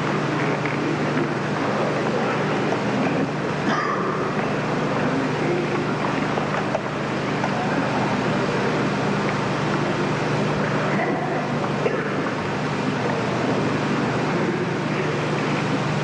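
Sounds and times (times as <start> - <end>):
murmur of spectators: 0.0 - 16.0
tape hiss and hum: 0.0 - 16.0.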